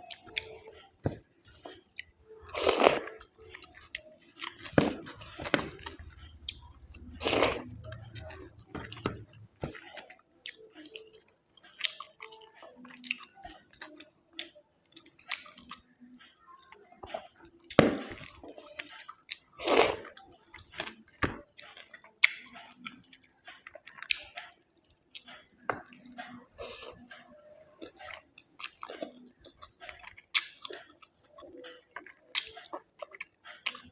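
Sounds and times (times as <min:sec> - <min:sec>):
chewing and wet mouth sounds: 0:00.0 - 0:33.9.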